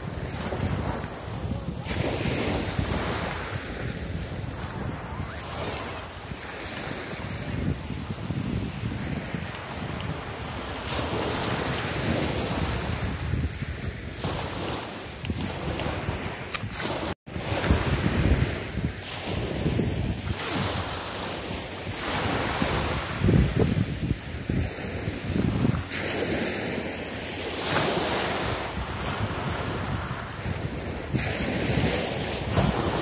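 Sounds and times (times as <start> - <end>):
small waves on pebbly beach: 0.0 - 33.0
wind on microphone: 0.0 - 33.0.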